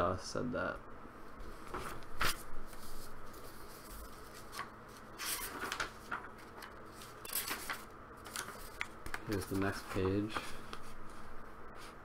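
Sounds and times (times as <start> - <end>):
paper pages rustling: 1.4 - 12.0.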